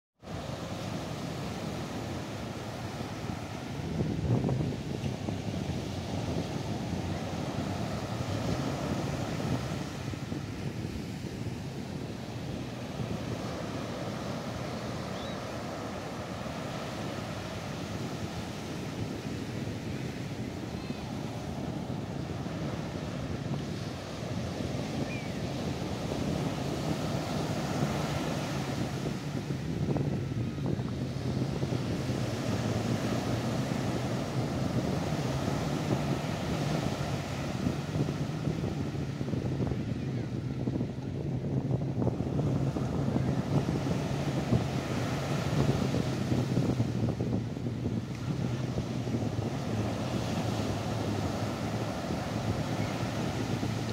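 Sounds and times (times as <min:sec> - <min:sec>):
small waves breaking on sand: 0:00.2 - 0:53.9
wind buffeting microphone: 0:00.3 - 0:53.9.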